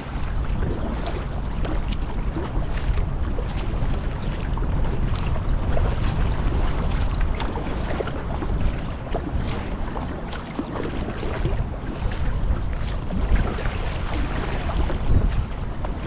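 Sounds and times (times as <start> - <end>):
kayak paddle splashing in water: 0.0 - 16.0
water drips and small splashes: 0.0 - 16.0
wind rumble on microphone: 0.0 - 16.0.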